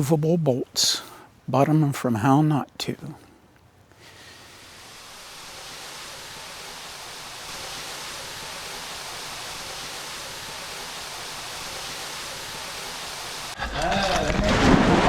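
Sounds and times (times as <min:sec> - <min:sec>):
steady rushing hiss: 0:00.0 - 0:13.6.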